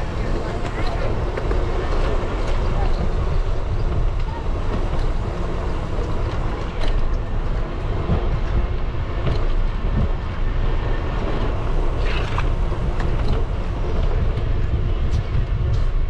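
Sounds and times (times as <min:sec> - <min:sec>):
bicycle tyre rumble: 0:00.0 - 0:16.0
wind buffeting microphone: 0:00.0 - 0:16.0.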